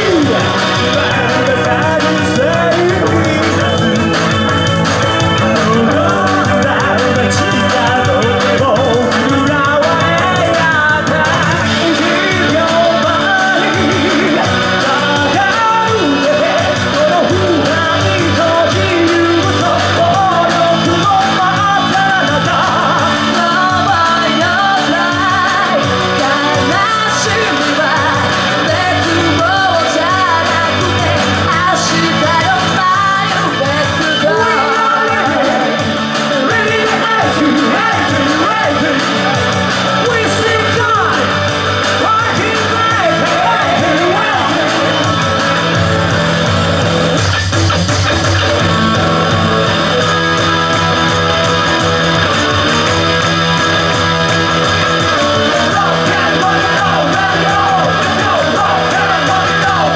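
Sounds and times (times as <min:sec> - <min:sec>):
drums: 0:00.0 - 0:59.9
electric guitar: 0:00.0 - 0:59.9
people singing and shouting: 0:00.0 - 0:59.9.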